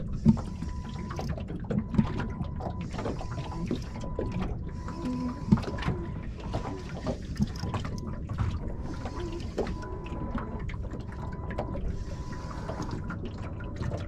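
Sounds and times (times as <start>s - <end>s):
waves lapping against boat hull: 0.0s - 14.0s.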